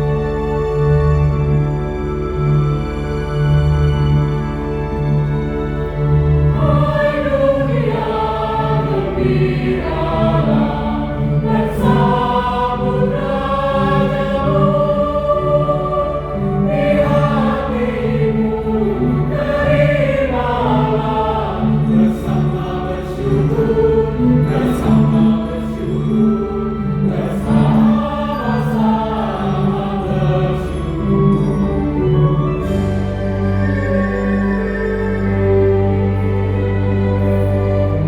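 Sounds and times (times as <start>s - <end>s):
sustained low accompanying notes: 0.0s - 38.0s
choir singing a hymn: 5.2s - 38.0s.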